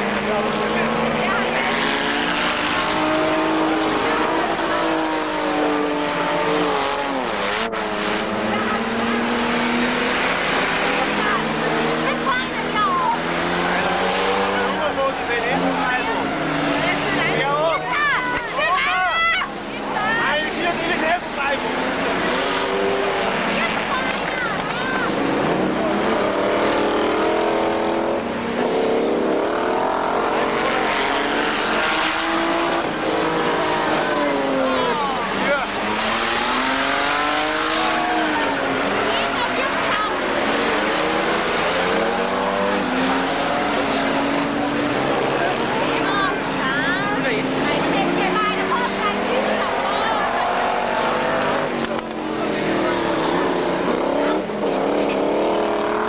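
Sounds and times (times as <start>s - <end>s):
stock car engines running hard: 0.0s - 56.0s.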